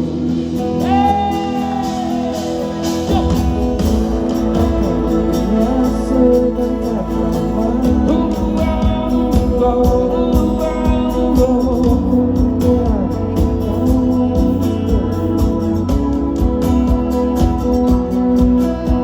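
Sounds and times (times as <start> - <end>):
faint singing: 0.0 - 19.0
guitar playing: 0.0 - 19.0
sustained keyboard chords: 2.3 - 19.0.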